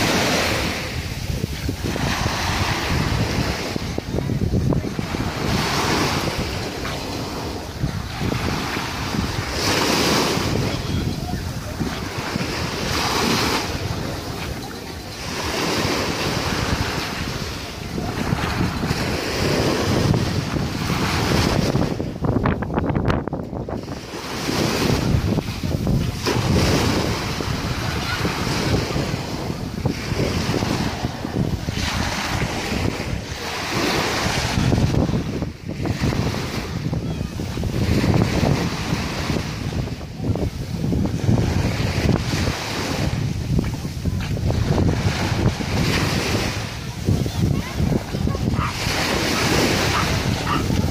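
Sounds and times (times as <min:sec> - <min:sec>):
small waves breaking on sand: 0:00.0 - 0:50.9
wind buffeting microphone: 0:00.0 - 0:50.9.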